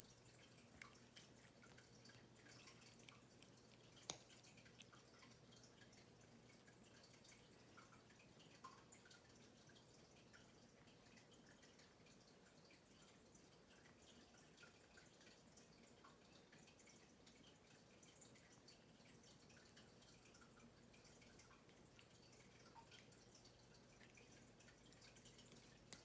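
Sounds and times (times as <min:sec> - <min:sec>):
faint small ticks and clicks: 0:00.0 - 0:26.0.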